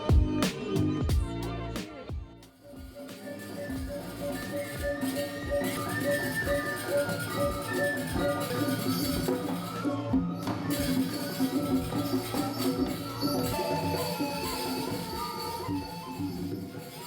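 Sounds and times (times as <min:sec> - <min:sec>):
music with light percussion: 0:00.0 - 0:17.0.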